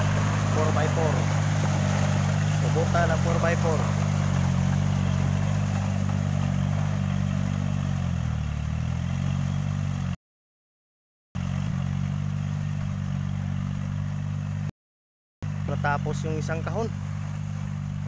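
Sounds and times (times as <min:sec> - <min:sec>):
tractor diesel engine running: 0:00.0 - 0:10.2, 0:11.4 - 0:14.7, 0:15.4 - 0:18.0.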